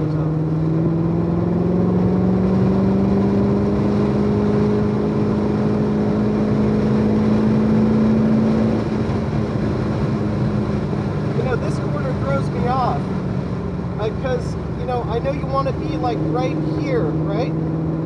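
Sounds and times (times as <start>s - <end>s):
car engine under load: 0.0s - 18.0s.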